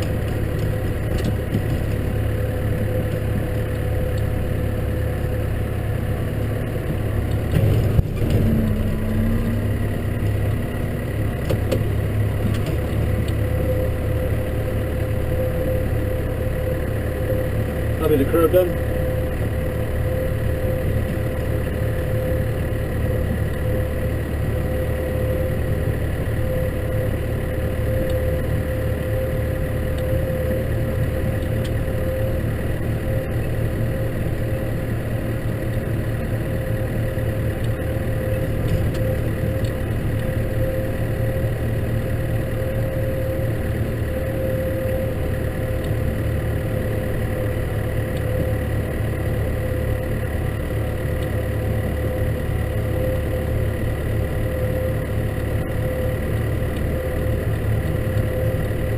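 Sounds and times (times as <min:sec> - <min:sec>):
constant whine: 0:00.0 - 0:58.9
tractor engine running: 0:00.0 - 0:58.9.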